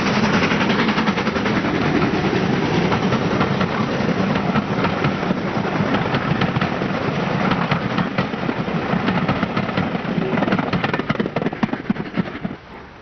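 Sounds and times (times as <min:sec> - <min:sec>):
train wheels clattering over rail joints: 0:00.0 - 0:12.8.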